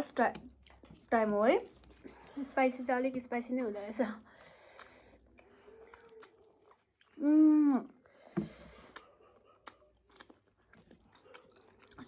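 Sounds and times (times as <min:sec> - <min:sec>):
person chewing noodles: 0:00.3 - 0:02.6, 0:03.9 - 0:12.0.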